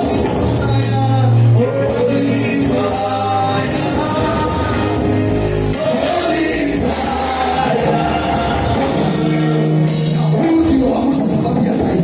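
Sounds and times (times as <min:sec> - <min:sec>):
people singing: 0:00.0 - 0:10.7
gospel worship music: 0:00.0 - 0:12.0.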